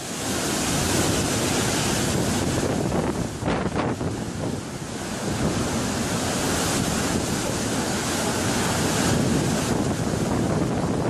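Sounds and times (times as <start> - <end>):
rushing wind: 0.0 - 11.0
waves breaking: 0.0 - 11.0
wind buffeting microphone: 0.0 - 11.0.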